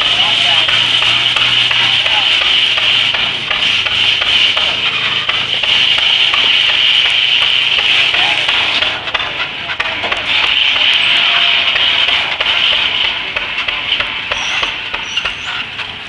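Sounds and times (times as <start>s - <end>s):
saw blade rasping through log: 0.0s - 15.8s.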